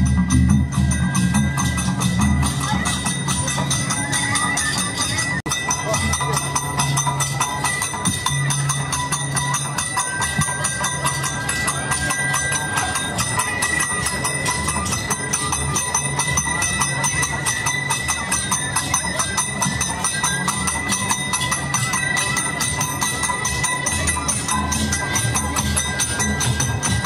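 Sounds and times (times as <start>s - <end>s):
jingling metal percussion: 0.0s - 27.0s.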